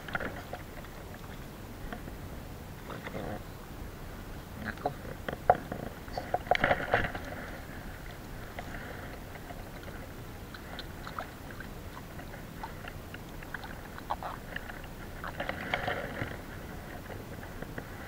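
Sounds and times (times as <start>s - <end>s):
sea and wind noise: 0.0s - 18.0s.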